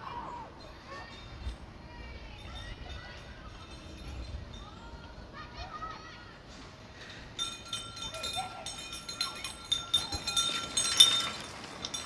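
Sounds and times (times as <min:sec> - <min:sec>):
metallic ringing tones: 0:00.3 - 0:05.5, 0:07.0 - 0:12.0.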